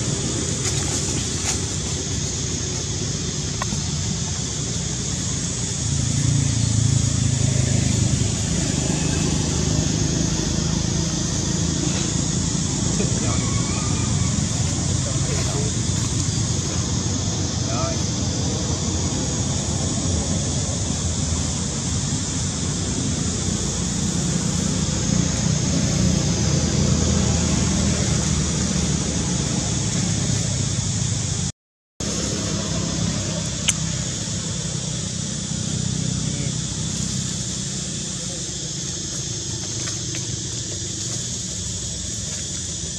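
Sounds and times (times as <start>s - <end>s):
low engine-like hum: 0.0s - 42.9s
outdoor rushing noise with rumble: 0.0s - 42.9s.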